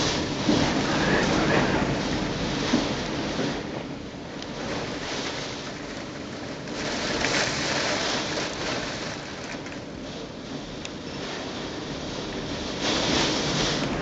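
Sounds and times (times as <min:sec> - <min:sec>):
strong wind and rain: 0:00.0 - 0:14.0.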